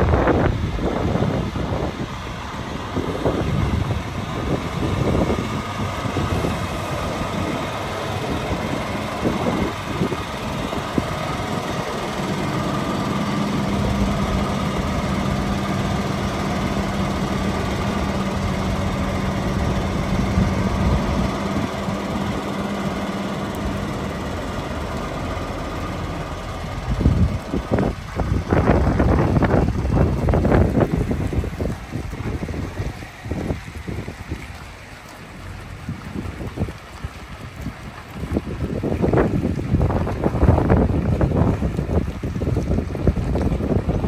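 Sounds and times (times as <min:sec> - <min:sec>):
low engine drone: 0:00.0 - 0:44.0
truck diesel engine passing: 0:00.0 - 0:44.0
tyre and trailer rumble: 0:00.0 - 0:44.0.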